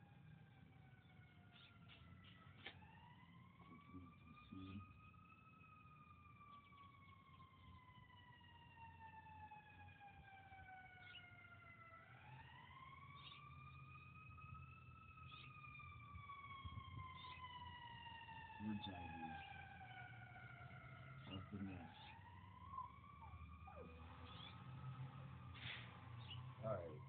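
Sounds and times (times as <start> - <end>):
faint wailing siren: 0.0 - 27.0.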